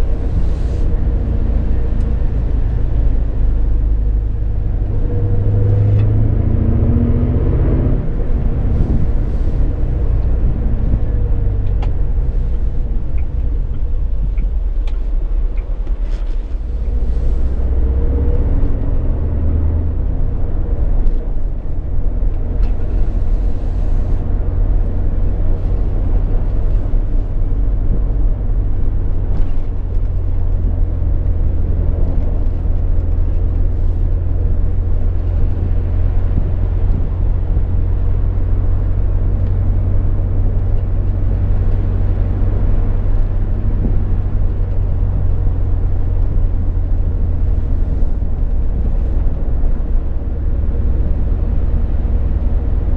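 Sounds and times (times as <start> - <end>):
deep engine drone: 0.0 - 52.9
road and tyre noise: 0.0 - 52.9.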